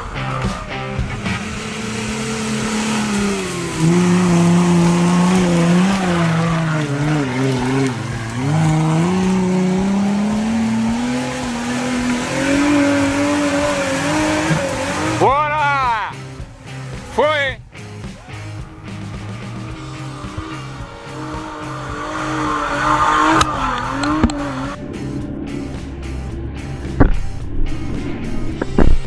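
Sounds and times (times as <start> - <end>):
off-road vehicle engine under load: 0.0 - 28.8.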